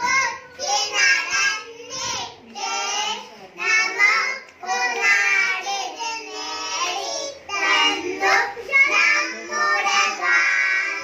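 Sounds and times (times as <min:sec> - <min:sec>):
children singing into a microphone: 0:00.0 - 0:11.0.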